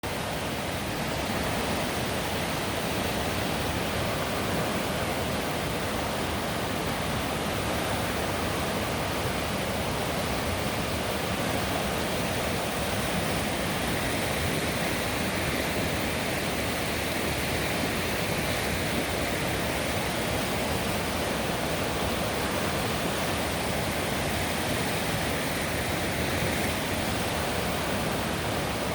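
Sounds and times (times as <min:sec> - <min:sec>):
floodwater rushing: 0:00.1 - 0:28.9.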